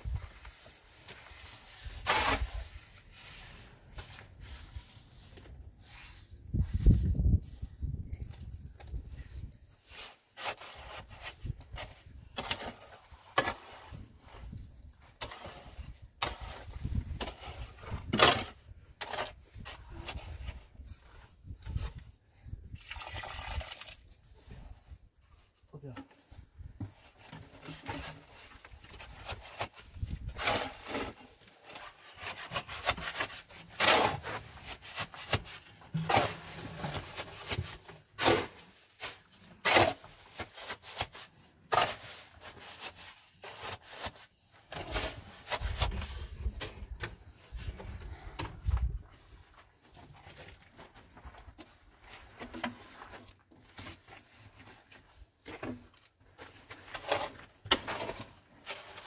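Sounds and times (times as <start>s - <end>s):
scraping on rough surface: 0.0s - 22.2s, 24.4s - 59.0s.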